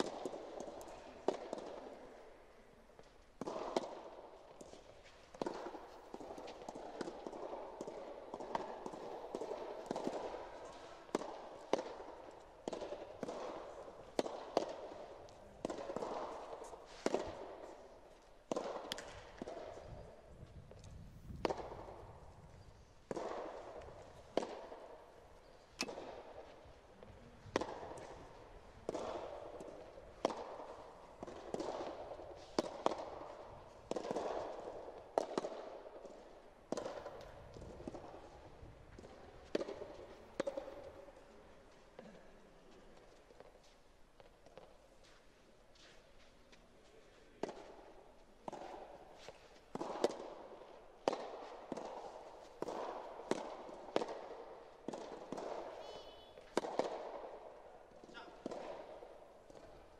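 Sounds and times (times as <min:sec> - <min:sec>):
ball bouncing on court: 0:00.0 - 0:02.2, 0:03.0 - 0:20.1, 0:21.3 - 0:22.2, 0:23.1 - 0:41.3, 0:47.4 - 0:59.9
rackets striking tennis ball: 0:00.0 - 0:59.9.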